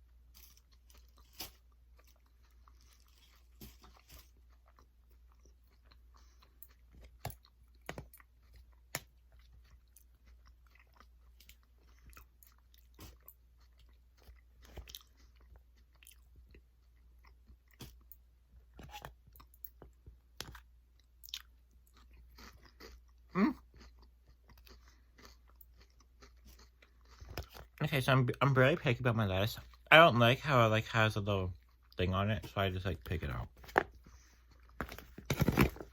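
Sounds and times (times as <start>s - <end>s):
chewing and crunching food: 0.0s - 35.9s.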